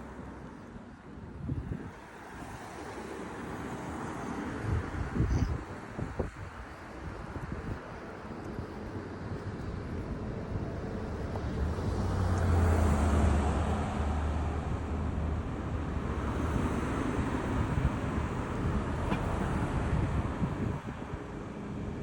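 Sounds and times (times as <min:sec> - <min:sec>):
tyre and road noise: 0:00.0 - 0:22.0
vehicle engine drone: 0:00.0 - 0:22.0.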